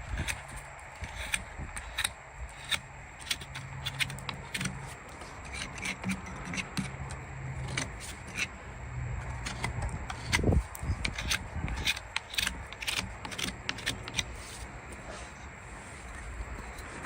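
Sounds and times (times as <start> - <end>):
hand tools clicking and scraping: 0.0 - 17.0
low steady hum: 0.0 - 17.0.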